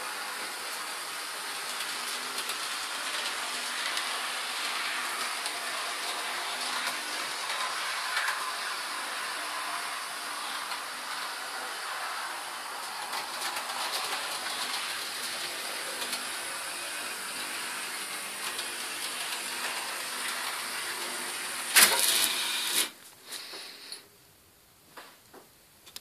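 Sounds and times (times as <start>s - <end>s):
model train motors whirring: 0.0s - 23.6s.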